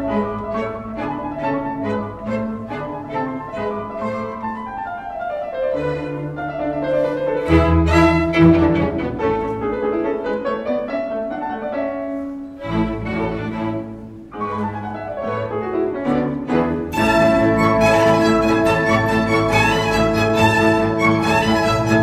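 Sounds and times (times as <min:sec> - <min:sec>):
grand piano playing: 0:00.0 - 0:22.0
string orchestra: 0:00.0 - 0:22.0.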